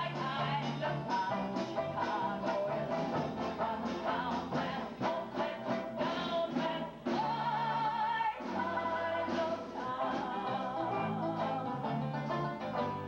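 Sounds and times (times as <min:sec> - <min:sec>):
banjo band playing: 0:00.0 - 0:13.0.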